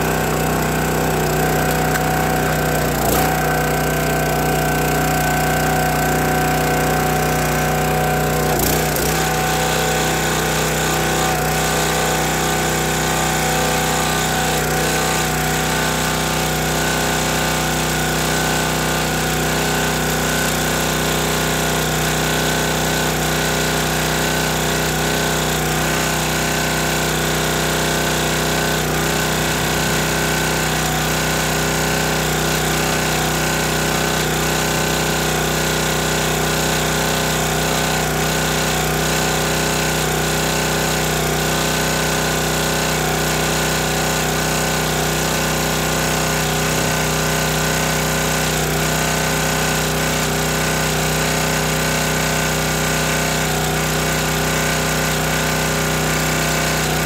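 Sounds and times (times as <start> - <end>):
small gas engine running: 0.0 - 57.0.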